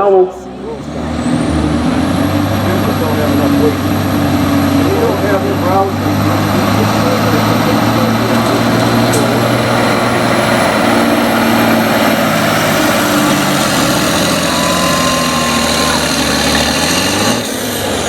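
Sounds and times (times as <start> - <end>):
truck diesel engine under load: 0.0 - 18.0.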